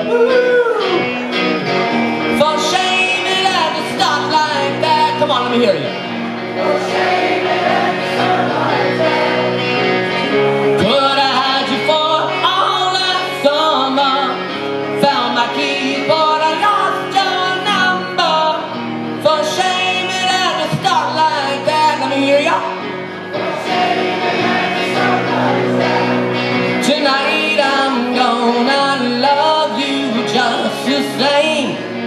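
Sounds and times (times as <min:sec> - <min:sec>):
man singing: 0:00.0 - 0:01.2, 0:02.3 - 0:06.0, 0:08.0 - 0:22.8, 0:24.4 - 0:32.0
rock band playing: 0:00.0 - 0:32.0.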